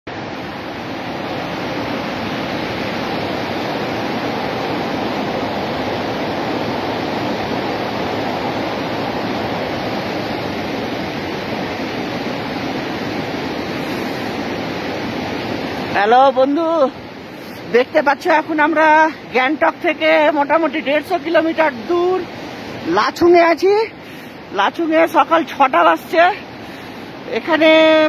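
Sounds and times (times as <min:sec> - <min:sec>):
river rushing over rocks: 0:00.1 - 0:28.0.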